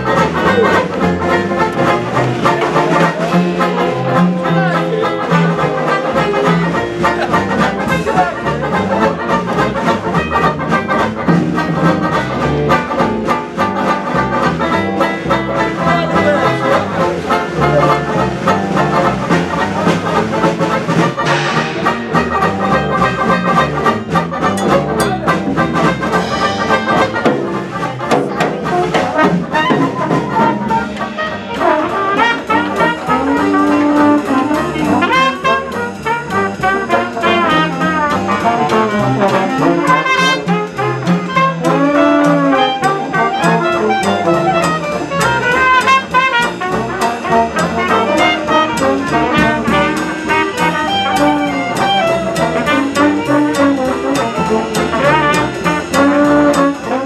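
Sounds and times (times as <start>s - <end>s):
clarinet: 0.0s - 57.0s
drum kit: 0.0s - 57.0s
trombone: 0.0s - 57.0s
trumpet: 0.0s - 57.0s
walking double bass: 0.0s - 57.0s.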